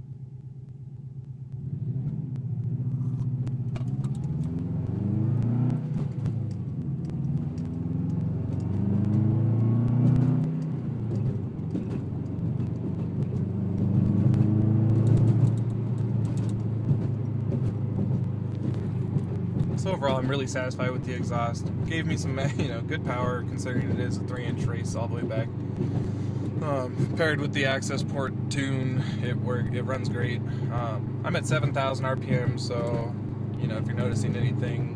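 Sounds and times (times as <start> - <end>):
car engine accelerating hard: 1.5 - 34.9.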